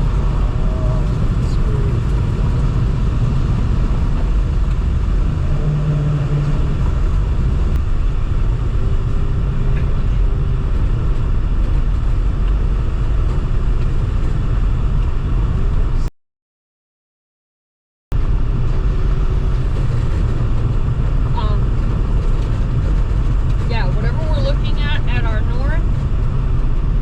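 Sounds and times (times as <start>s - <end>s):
car engine and tyre rumble: 0.0s - 16.1s, 18.1s - 27.0s.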